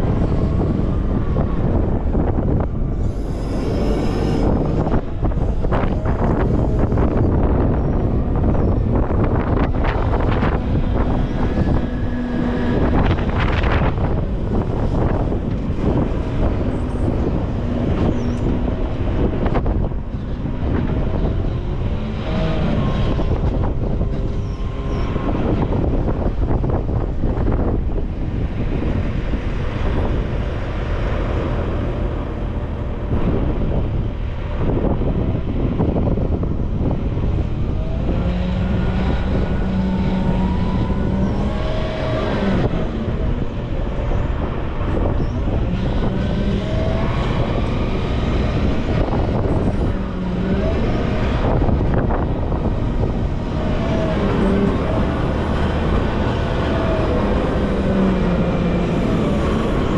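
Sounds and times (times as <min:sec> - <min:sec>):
wheel loader diesel engine: 0:00.0 - 0:59.9.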